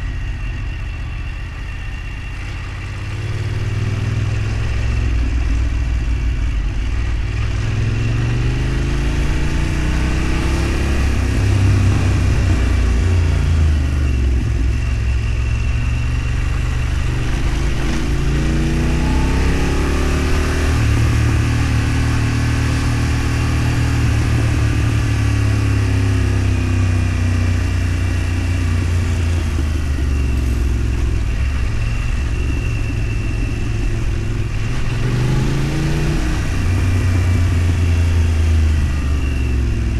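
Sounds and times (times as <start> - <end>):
low road rumble: 0.0 - 39.9
vehicle engine accelerating: 0.0 - 39.9.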